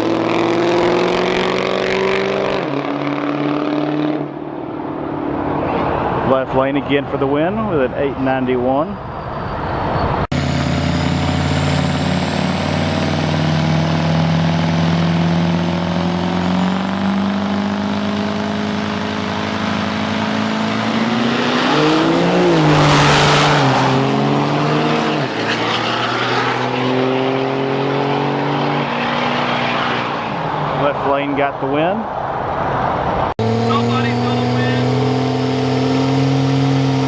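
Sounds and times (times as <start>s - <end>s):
diesel truck engine drone: 4.2s - 37.0s.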